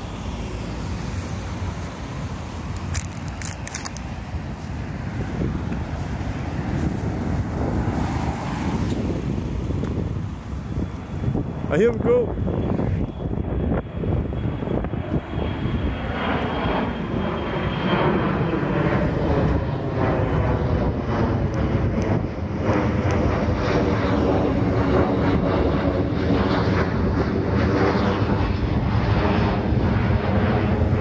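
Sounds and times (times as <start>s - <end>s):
aircraft engines rumbling: 0.0s - 31.0s.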